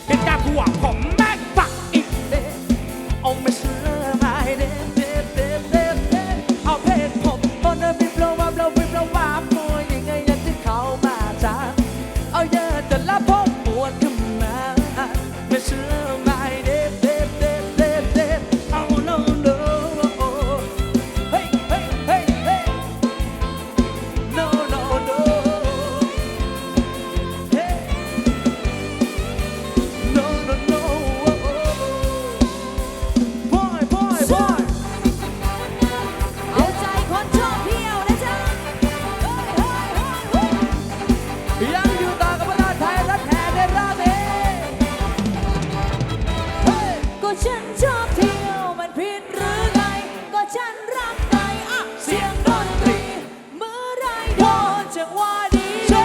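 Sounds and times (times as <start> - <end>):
wavering lead melody: 0.0 - 50.2
driving drum beat: 0.0 - 56.0
live band music: 0.0 - 56.0
person singing: 0.0 - 56.0.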